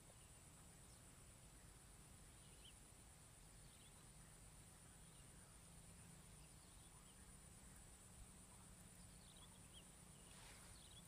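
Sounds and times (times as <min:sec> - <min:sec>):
faint chirps: 0:00.0 - 0:11.0.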